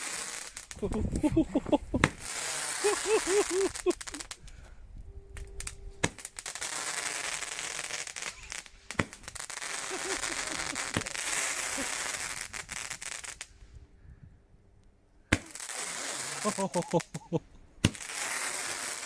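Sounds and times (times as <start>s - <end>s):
firework sharp pops: 0.0s - 4.5s, 5.4s - 13.6s, 15.3s - 19.0s
firework hiss and crackle: 0.0s - 4.6s, 5.4s - 13.8s, 15.3s - 19.0s.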